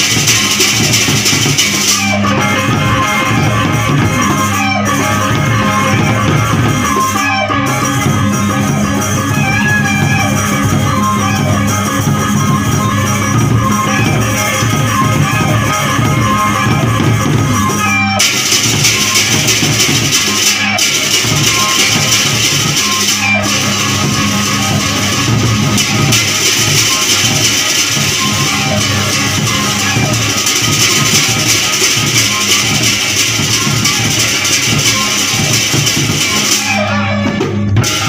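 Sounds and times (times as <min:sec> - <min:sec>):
bamboo flute melody: 0:00.0 - 0:38.0
drums and percussion: 0:00.0 - 0:38.0.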